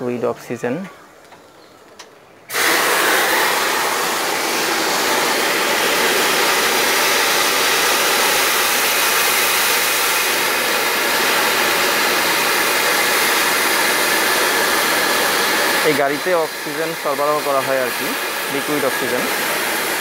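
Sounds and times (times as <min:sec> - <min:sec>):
gas hissing from valves: 0:02.5 - 0:20.0.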